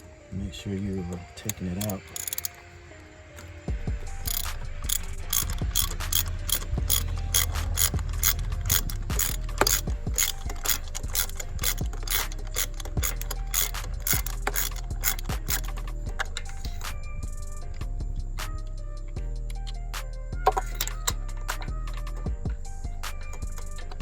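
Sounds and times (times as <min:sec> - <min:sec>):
socket ratchet clicking: 0:01.4 - 0:02.7, 0:03.4 - 0:18.6, 0:19.4 - 0:24.0.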